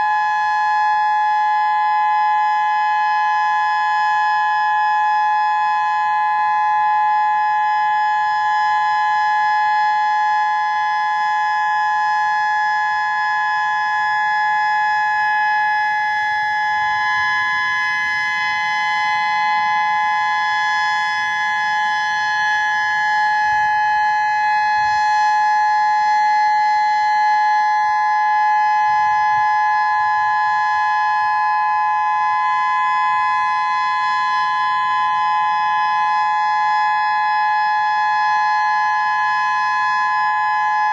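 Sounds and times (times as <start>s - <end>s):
warning siren steady alert tone: 0.0s - 40.9s.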